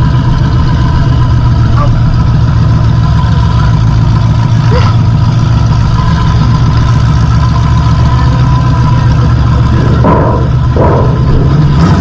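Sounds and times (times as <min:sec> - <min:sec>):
car engine running at low speed: 0:00.0 - 0:12.0.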